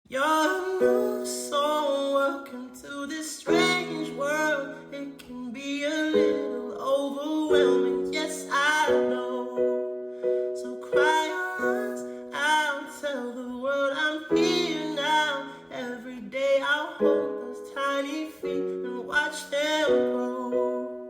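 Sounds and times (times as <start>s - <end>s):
person singing: 0.1s - 21.0s.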